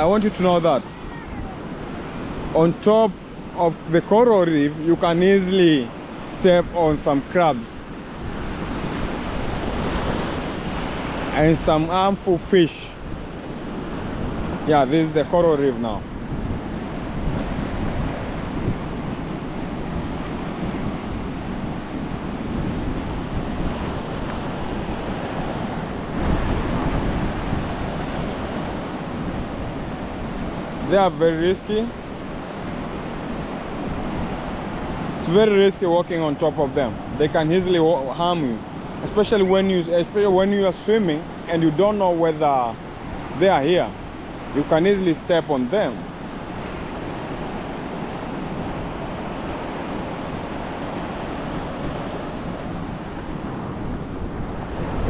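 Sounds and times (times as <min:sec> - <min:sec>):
wind buffeting the microphone: 0:00.0 - 0:44.8, 0:45.4 - 0:55.0
ocean surf breaking: 0:00.0 - 0:55.0.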